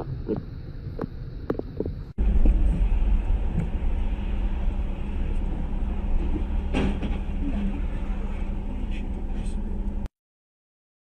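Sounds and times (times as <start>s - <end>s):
faint steady hum: 0.0s - 10.1s
vehicle rumble: 0.0s - 10.1s.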